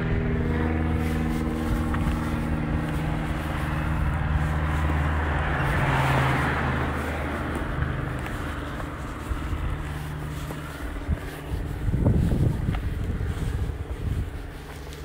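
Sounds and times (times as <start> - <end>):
car passing: 0.0 - 15.0
engine humming: 0.0 - 15.0.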